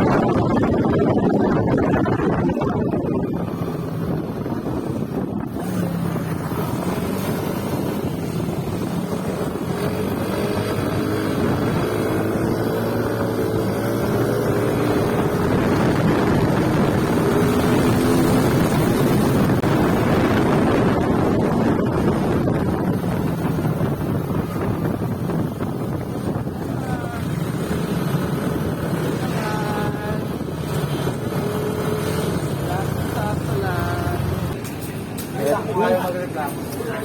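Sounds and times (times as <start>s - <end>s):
motorcycle engine running: 0.0s - 35.4s
wind noise on microphone: 0.0s - 37.0s.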